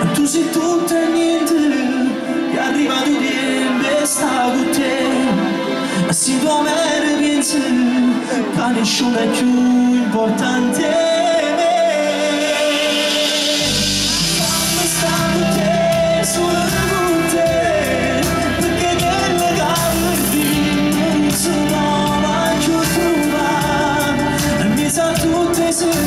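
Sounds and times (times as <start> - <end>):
live pop band: 0.0 - 26.0
man singing: 0.0 - 26.0.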